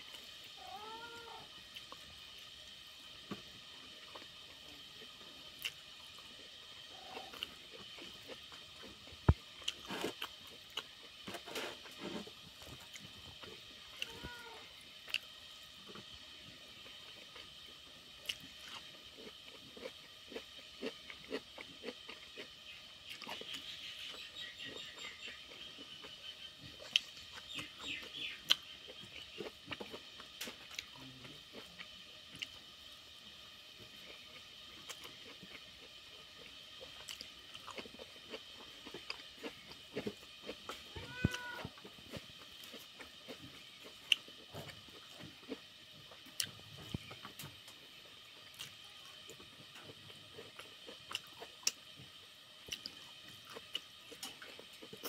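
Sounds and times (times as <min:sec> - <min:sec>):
person chewing food: 0:03.3 - 0:14.4, 0:15.0 - 0:16.2, 0:16.8 - 0:32.6, 0:33.8 - 0:55.0.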